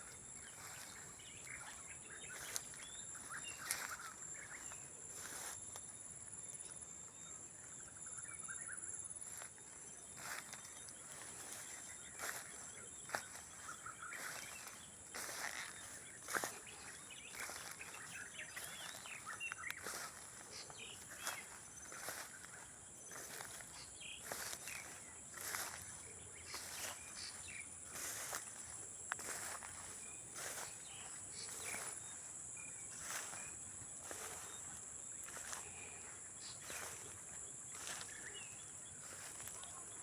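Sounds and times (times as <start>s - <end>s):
birds chirping: 0.0s - 5.5s, 6.6s - 40.0s
crickets trilling: 0.0s - 40.0s.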